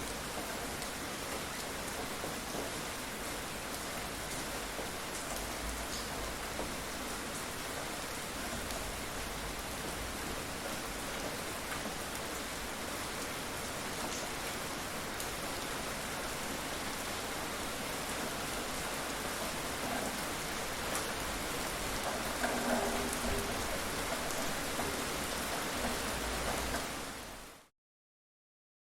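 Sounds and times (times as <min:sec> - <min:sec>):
steady rain pattering: 0:00.0 - 0:27.7.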